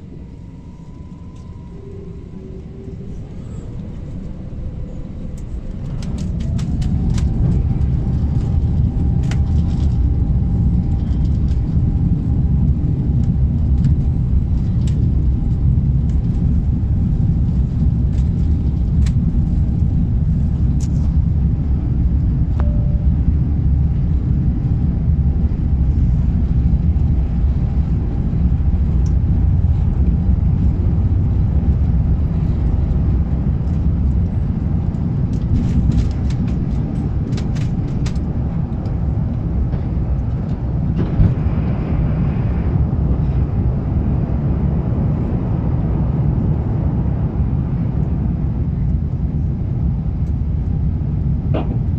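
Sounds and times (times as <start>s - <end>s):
aircraft rumbling on runway: 0.0s - 51.9s.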